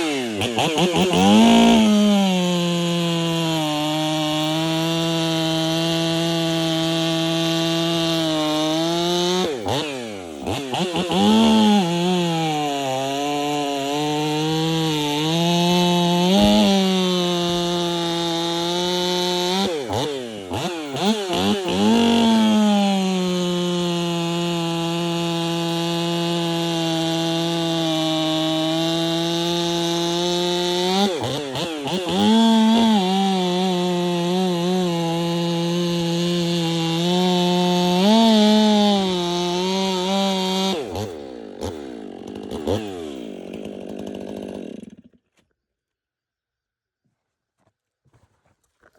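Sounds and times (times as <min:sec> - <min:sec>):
chainsaw running at high revs: 0:00.0 - 0:45.2.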